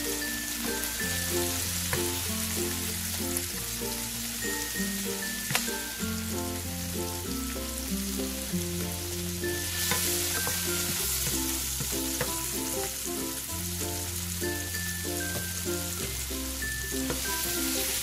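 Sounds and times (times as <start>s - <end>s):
background music with bass: 0.0s - 18.0s
food sizzling in frying pan: 0.0s - 18.0s.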